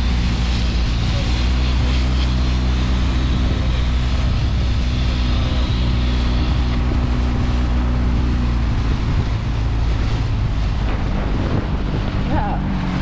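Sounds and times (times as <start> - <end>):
outboard motor running: 0.0 - 13.0
wind noise on microphone: 0.0 - 13.0.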